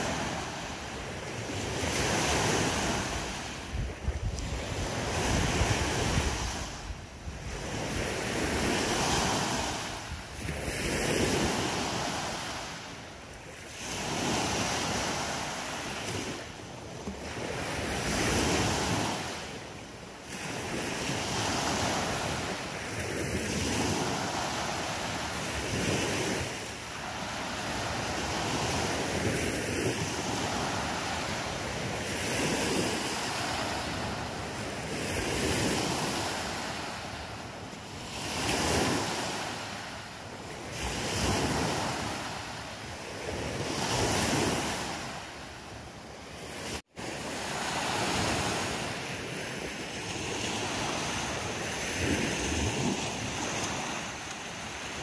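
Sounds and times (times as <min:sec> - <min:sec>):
small waves breaking on beach: 0:00.0 - 0:55.0.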